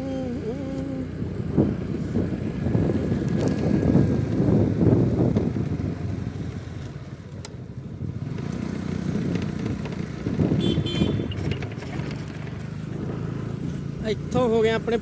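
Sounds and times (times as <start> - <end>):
wind buffeting microphone: 0.0 - 13.2
motorcycle riding rumble: 0.0 - 15.0.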